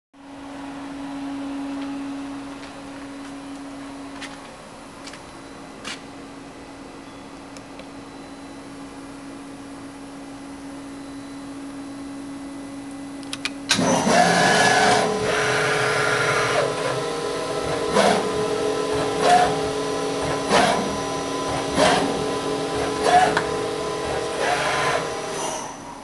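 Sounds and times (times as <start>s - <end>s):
machine humming: 0.2s - 26.0s
machine whirring and whining: 0.2s - 26.0s.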